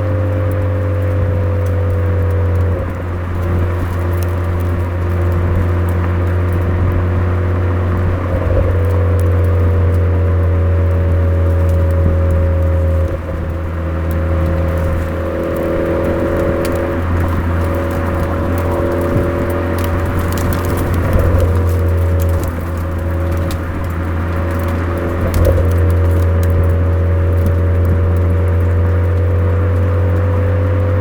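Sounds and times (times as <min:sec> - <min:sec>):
car exhaust drone: 0:00.0 - 0:31.0.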